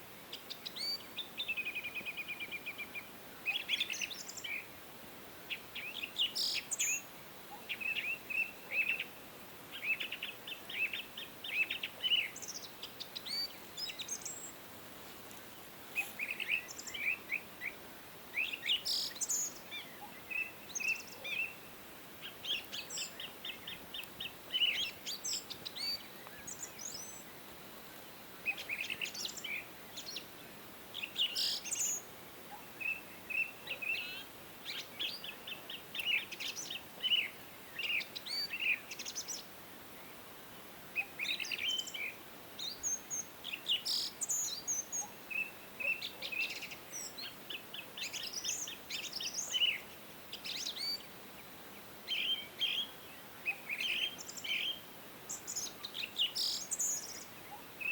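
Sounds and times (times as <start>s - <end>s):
faint steady background hiss: 0.0s - 57.9s.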